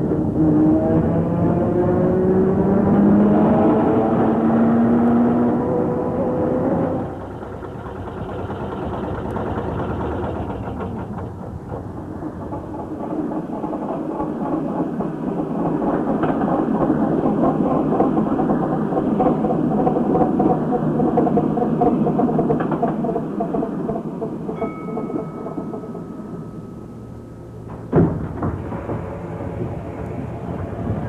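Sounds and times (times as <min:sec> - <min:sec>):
tram rattling on rails: 0:00.0 - 0:31.0.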